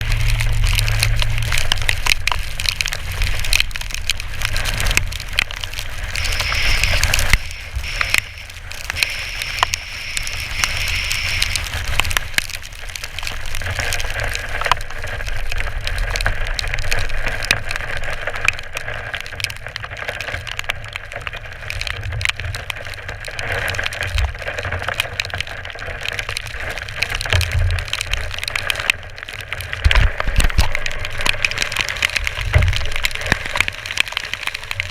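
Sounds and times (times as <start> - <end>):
sharp clicks and crackles: 0.0 - 34.9.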